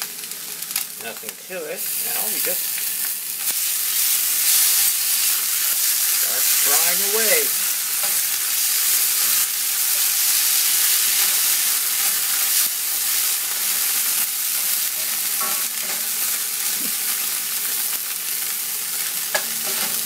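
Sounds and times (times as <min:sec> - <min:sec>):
frying hiss in a skillet: 0:00.0 - 0:20.0.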